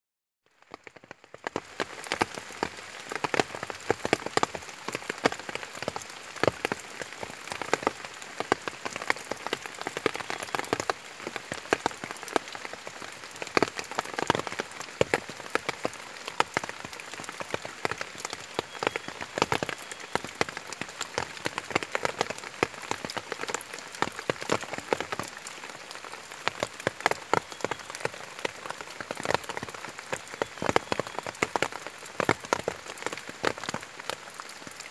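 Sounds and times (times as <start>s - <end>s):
rain on leaves and puddle: 0.4s - 34.9s.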